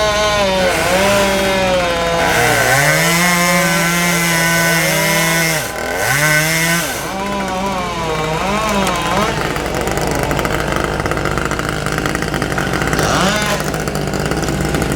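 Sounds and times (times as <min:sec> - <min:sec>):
chainsaw cutting wood: 0:00.0 - 0:14.9.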